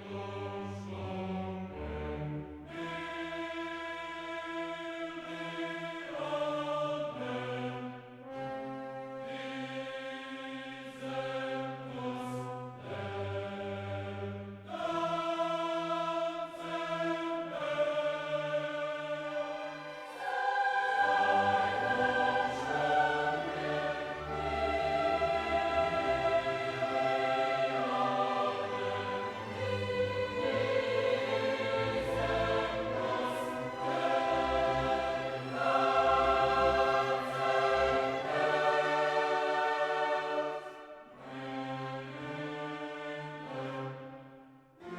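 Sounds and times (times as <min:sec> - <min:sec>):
choir singing held chords: 0:00.0 - 0:44.9.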